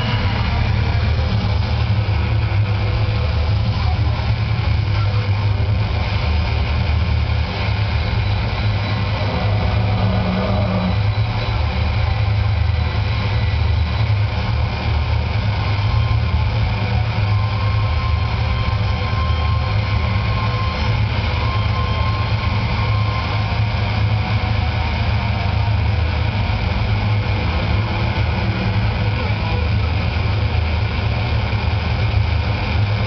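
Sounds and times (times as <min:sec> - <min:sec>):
low droning guitar rumble: 0:00.0 - 0:33.0
noisy hiss: 0:00.0 - 0:33.0.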